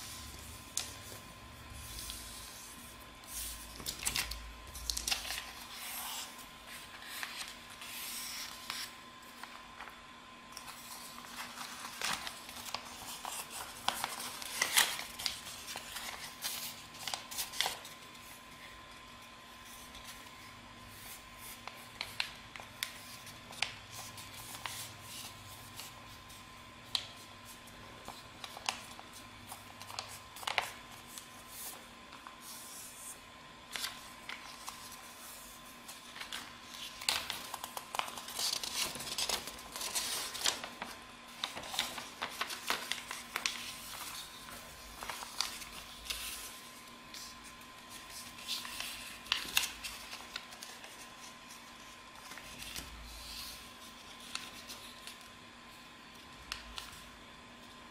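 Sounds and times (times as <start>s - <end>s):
paper rustling and crackling: 0.0s - 55.3s
faint steady hum: 0.0s - 57.9s.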